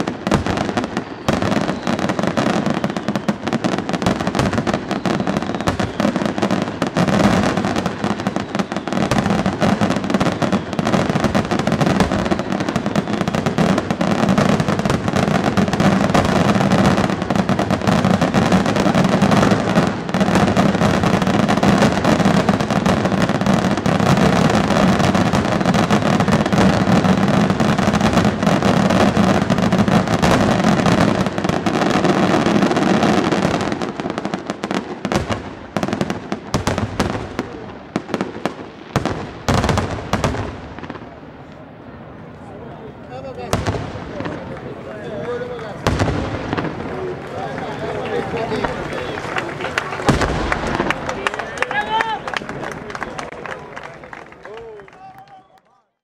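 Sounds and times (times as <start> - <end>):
fireworks bursting and crackling: 0.0 - 55.3.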